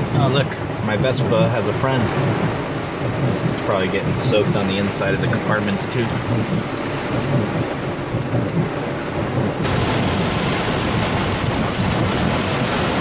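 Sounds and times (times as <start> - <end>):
heavy rain pouring: 0.0 - 13.0
low thunder rumble: 0.0 - 13.0.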